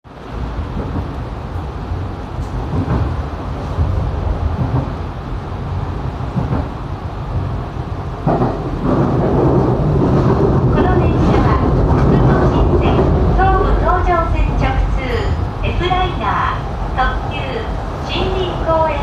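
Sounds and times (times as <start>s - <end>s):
train interior rumble: 0.1s - 19.0s.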